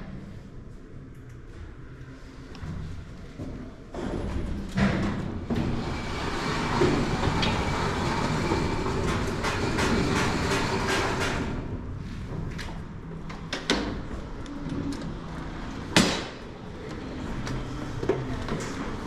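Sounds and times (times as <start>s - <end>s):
elevator rumbling: 1.8s - 19.0s.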